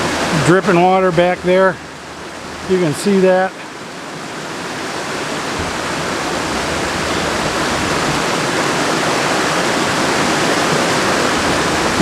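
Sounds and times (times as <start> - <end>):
creek rushing over boulders: 0.0 - 12.0.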